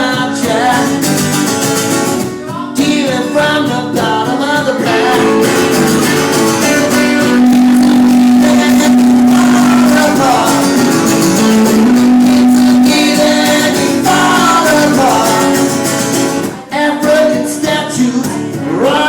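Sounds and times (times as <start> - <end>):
live band with guitars: 0.0 - 19.0.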